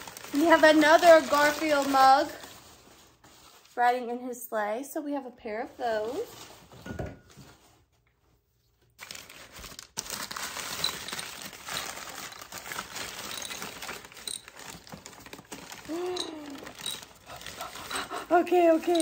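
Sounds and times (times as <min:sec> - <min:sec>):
packing paper rustling: 0:00.0 - 0:04.1, 0:05.6 - 0:06.8, 0:08.8 - 0:19.0.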